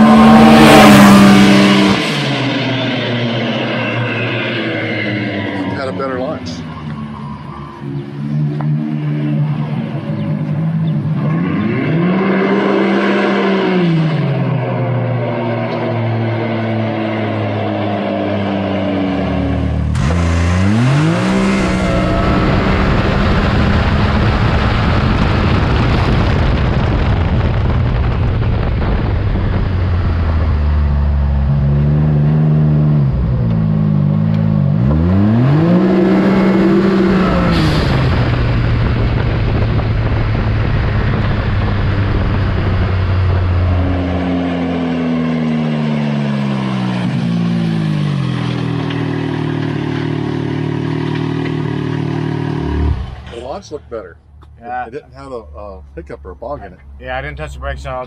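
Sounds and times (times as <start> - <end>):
off-road vehicle engine: 0.0 - 58.0.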